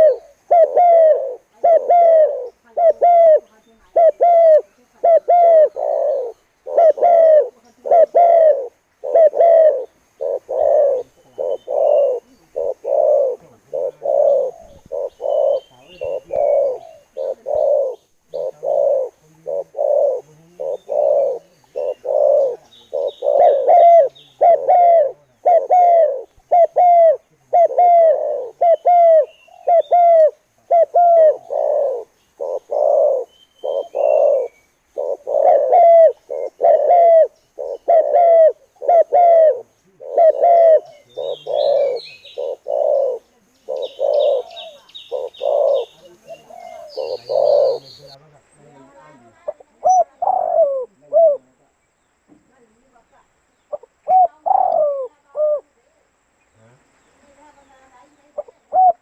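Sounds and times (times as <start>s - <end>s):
dove cooing: 0.0s - 51.6s, 53.7s - 56.0s, 57.4s - 59.0s.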